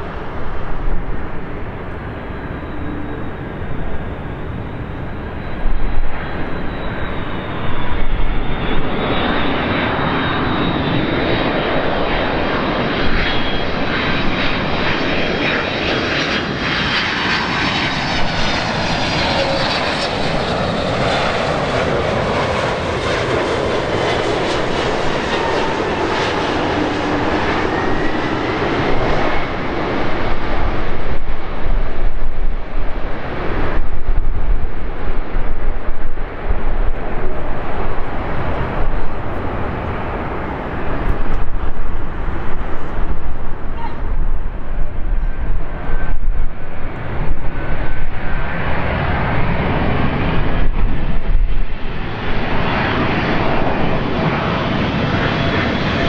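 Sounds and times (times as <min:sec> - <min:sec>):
jet airliner flying past: 0:00.0 - 0:56.0.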